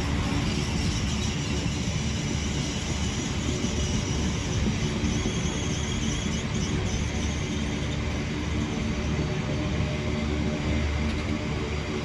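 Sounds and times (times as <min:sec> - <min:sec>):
freight train wheels on rails: 0:00.0 - 0:12.0.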